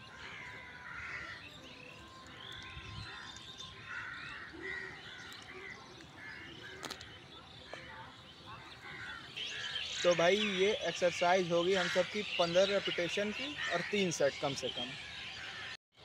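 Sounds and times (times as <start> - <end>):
birds chirping: 0.0 - 15.8.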